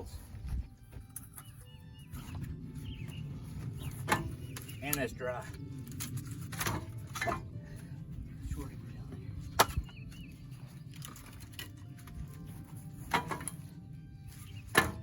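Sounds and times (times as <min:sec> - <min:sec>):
steady low rumble: 0:01.8 - 0:14.8.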